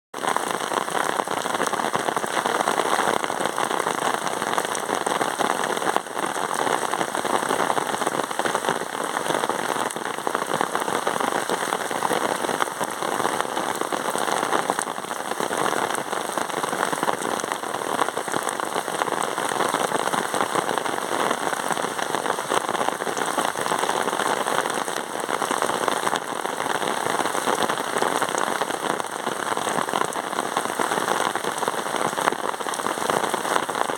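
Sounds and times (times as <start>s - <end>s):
steady rain: 0.2s - 33.9s.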